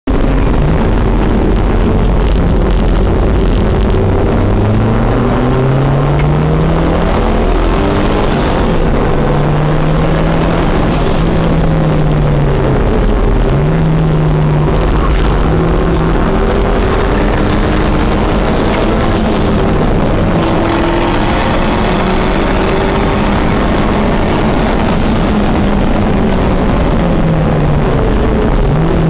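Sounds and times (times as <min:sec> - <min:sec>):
car engine revving: 0:00.0 - 0:29.0
road and wind noise: 0:00.0 - 0:29.0.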